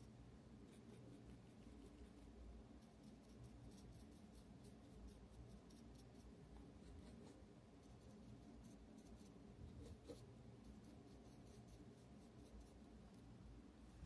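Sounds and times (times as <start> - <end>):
low room hum: 0.0 - 14.0
small brush scratching: 0.6 - 13.3.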